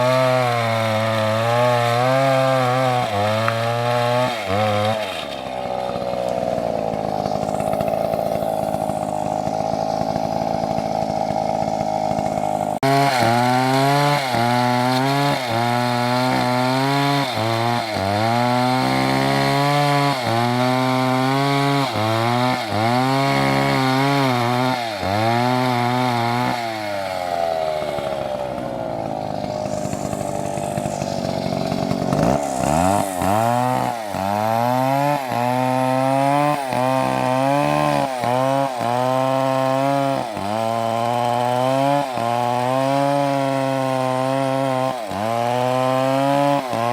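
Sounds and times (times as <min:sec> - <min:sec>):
chainsaw revving: 0:00.0 - 0:46.9.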